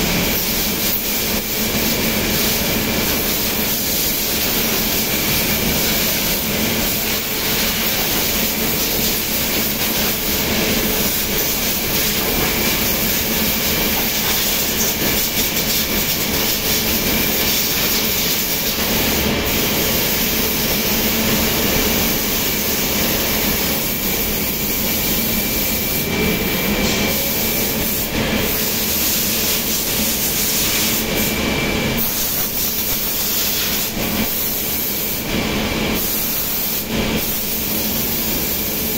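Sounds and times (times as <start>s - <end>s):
air blow gun hissing: 0.0s - 38.9s.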